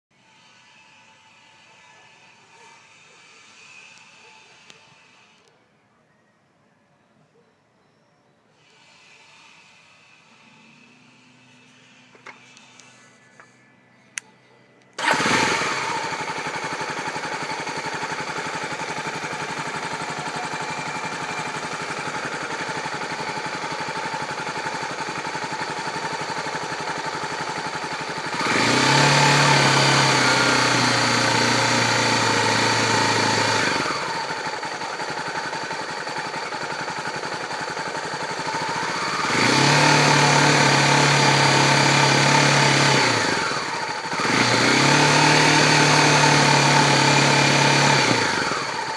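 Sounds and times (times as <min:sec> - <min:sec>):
motorcycle engine idling and revving: 0:00.2 - 0:05.5, 0:08.7 - 0:48.9.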